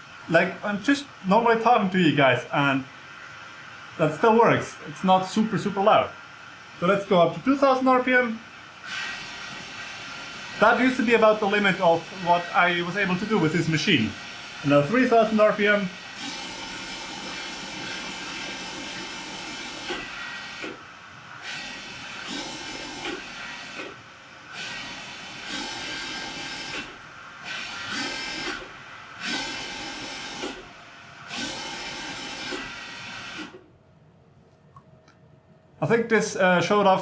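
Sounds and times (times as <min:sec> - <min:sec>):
milling machine spindle speeding and slowing: 0:00.0 - 0:33.6.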